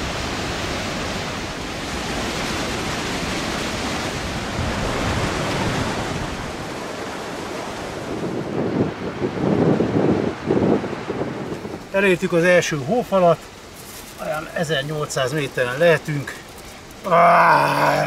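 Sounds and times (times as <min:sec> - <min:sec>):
river whitewater roaring: 0:00.0 - 0:18.0.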